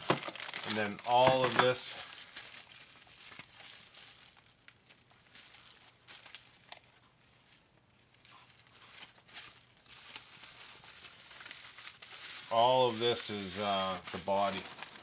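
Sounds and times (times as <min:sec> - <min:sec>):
plastic bubble wrap crinkling: 0:00.0 - 0:15.0.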